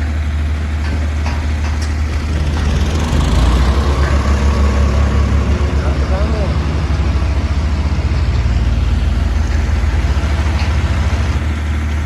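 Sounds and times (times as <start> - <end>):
tractor diesel engine throbbing: 0.0 - 12.0.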